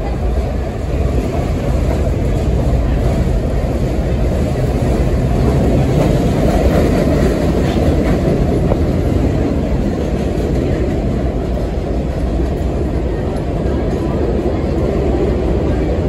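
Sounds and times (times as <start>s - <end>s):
subway train wheels rumbling on rails: 0.0s - 16.0s.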